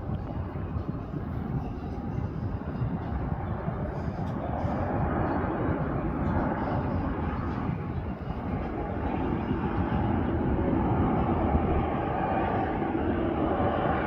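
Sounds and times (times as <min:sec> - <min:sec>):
airplane engines running: 0:00.0 - 0:14.0.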